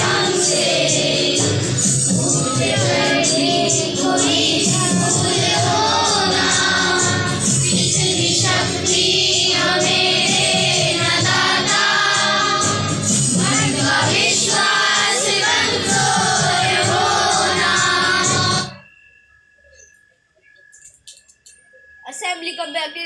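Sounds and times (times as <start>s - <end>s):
children singing in unison: 0.0s - 18.8s.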